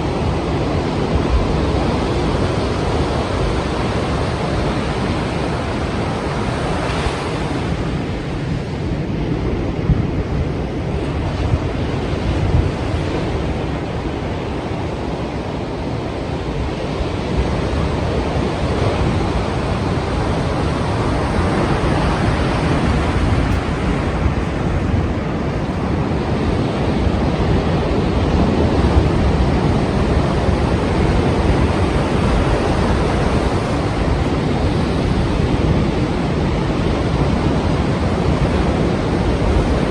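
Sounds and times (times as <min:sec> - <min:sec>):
sea waves breaking: 0:00.0 - 0:39.9
wind buffeting microphone: 0:00.0 - 0:39.9.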